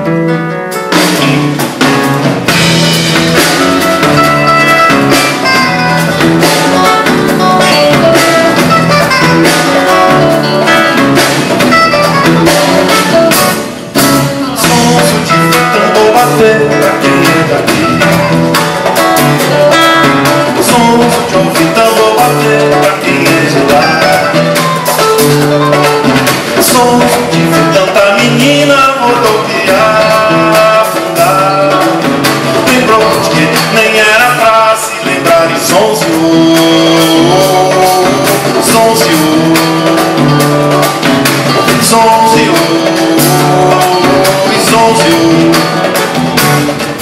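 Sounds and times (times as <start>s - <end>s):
acoustic guitar: 0.0s - 47.0s
electric bass: 0.0s - 47.0s
percussive beat: 0.0s - 47.0s
man singing: 2.6s - 47.0s.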